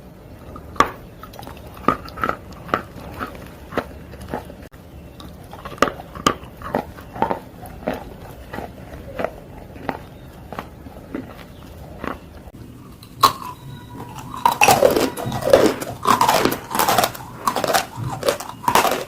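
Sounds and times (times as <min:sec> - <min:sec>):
clay crunching when chewed: 0:00.4 - 0:19.0.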